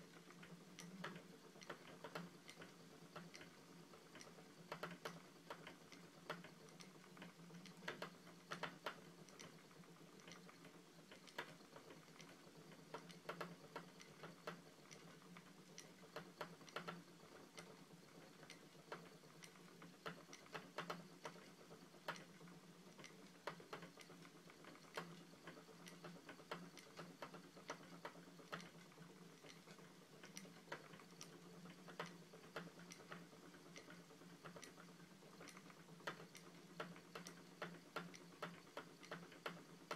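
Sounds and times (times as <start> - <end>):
spinning wheel clicking: 0.2 - 39.9.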